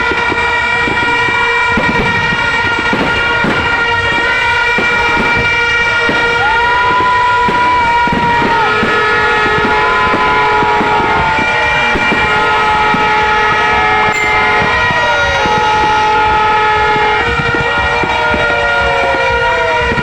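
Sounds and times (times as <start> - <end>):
fireworks banging and crackling: 0.0 - 20.0
horns sounding long tones: 0.0 - 20.0
whistle rising and falling: 0.0 - 20.0.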